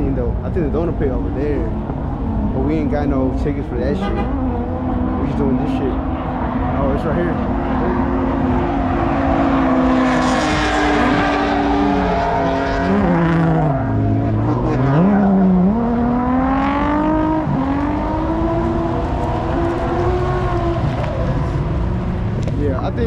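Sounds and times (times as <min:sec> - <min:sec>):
car engine revving hard: 0:01.5 - 0:23.0.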